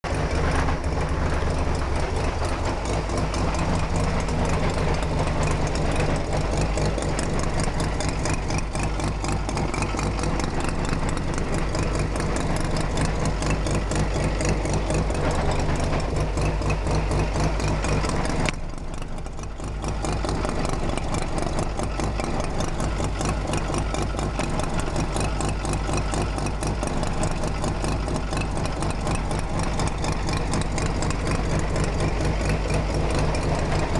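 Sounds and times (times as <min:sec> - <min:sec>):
engine clicking: 0:00.0 - 0:33.9
rotary engine idling: 0:00.0 - 0:33.9.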